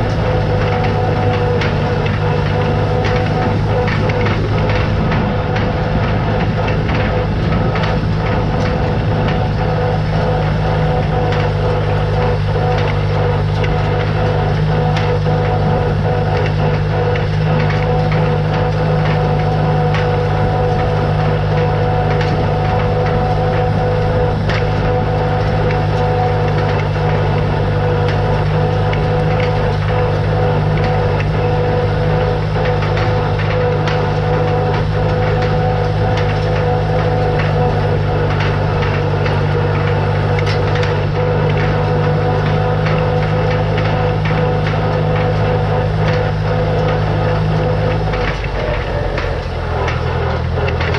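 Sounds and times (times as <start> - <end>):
hay rake clattering: 0.0 - 50.9
tractor engine running: 0.0 - 50.9.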